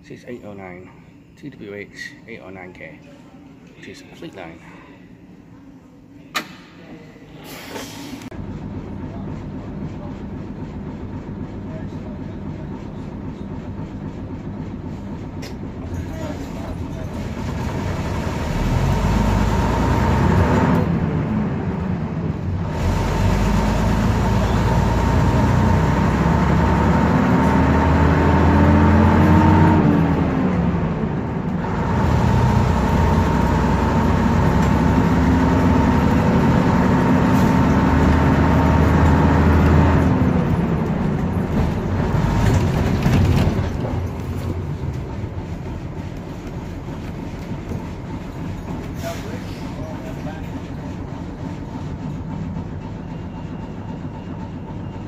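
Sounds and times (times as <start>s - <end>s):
bus diesel engine: 7.4s - 55.0s.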